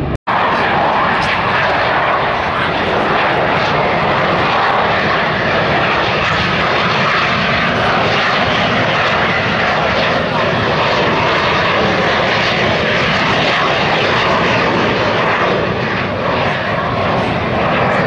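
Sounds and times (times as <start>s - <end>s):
aircraft engine noise: 0.0s - 18.0s.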